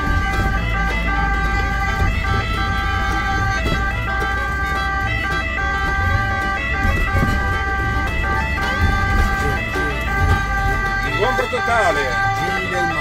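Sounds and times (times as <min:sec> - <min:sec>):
two-tone ambulance siren: 0:00.0 - 0:13.0
vehicle engine and tyres rumble: 0:00.0 - 0:13.0.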